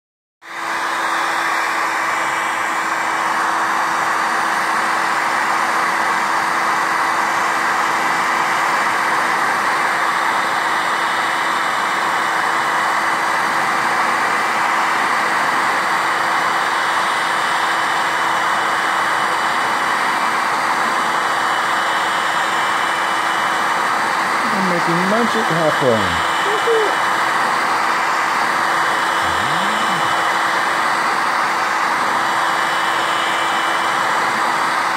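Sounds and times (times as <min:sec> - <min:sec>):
heat gun blowing air: 0:00.4 - 0:34.9.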